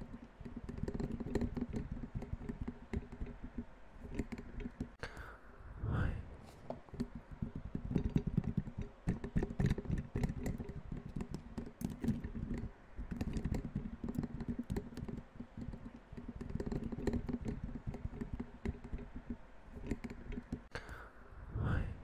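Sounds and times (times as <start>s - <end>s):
fast irregular dull tapping: 0.0s - 5.0s, 6.7s - 20.7s.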